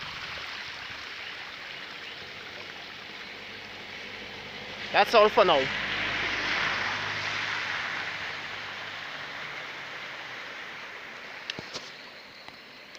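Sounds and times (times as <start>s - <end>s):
vehicle engine hum: 0.0s - 12.9s
water splashing under vehicle: 0.0s - 12.9s.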